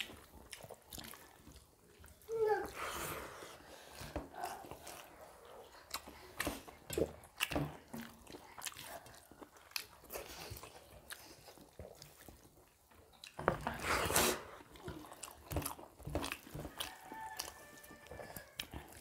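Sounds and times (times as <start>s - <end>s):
wet chewing and lip-smacking: 0.0s - 19.0s.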